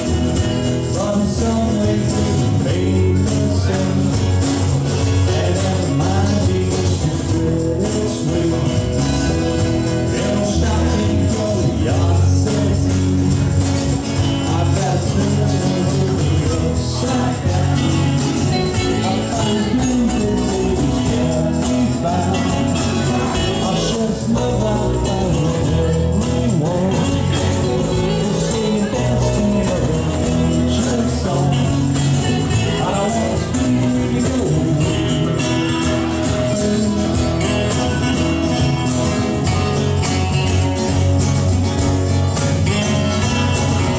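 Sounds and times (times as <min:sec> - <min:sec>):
electric bass line: 0:00.0 - 0:43.9
strummed acoustic guitars: 0:00.0 - 0:43.9.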